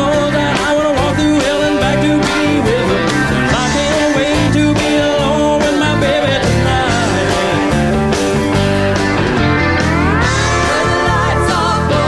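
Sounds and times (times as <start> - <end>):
man singing: 0.0 - 8.4, 10.5 - 12.0
country-rock band playing: 0.0 - 12.0.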